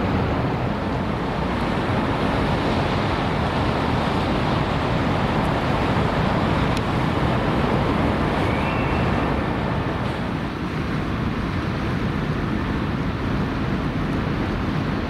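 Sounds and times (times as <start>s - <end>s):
ship propellers churning water: 0.0s - 15.0s.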